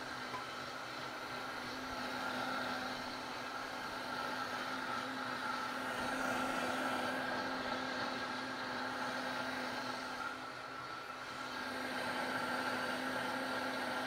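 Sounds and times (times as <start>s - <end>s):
blender whirring: 0.0s - 14.0s.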